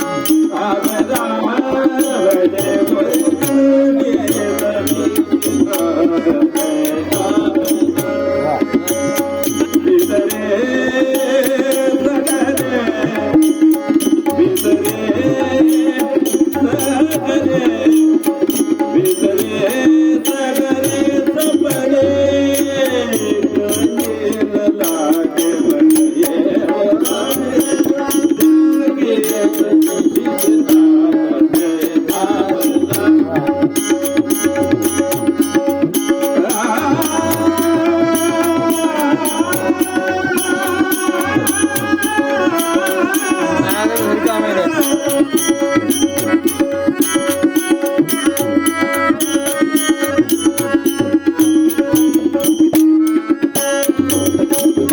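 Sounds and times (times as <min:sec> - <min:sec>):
hand drum and percussion: 0:00.0 - 0:54.9.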